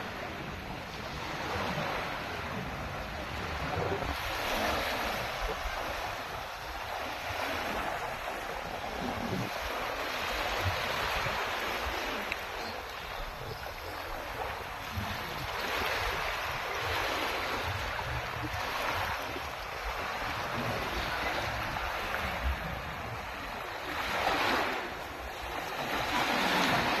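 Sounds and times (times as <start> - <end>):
ocean surf washing onto beach: 0.0 - 27.0.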